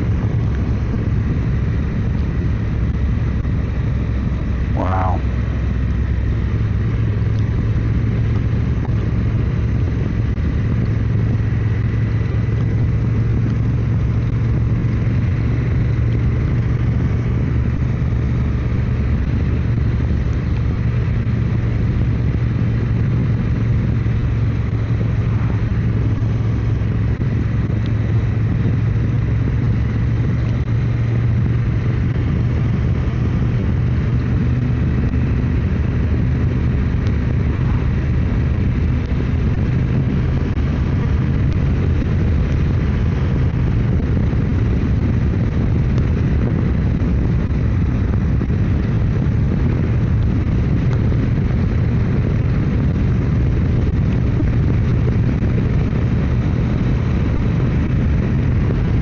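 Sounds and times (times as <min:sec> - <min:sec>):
motorcycle engine humming: 0:00.0 - 0:59.0
rush of riding noise: 0:00.0 - 0:59.0.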